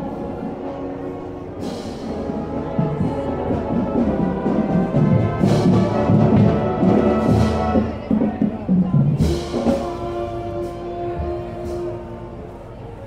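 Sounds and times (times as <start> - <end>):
marching band brass and drums: 0.0 - 13.0.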